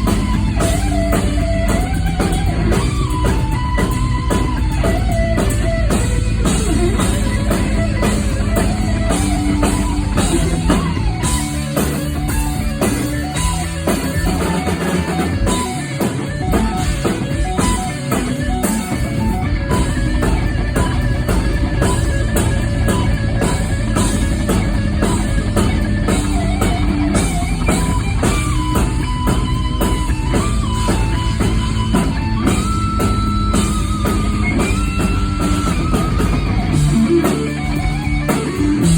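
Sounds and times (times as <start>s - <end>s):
distorted electric guitar: 0.0s - 38.9s
fast drumming: 0.0s - 38.9s.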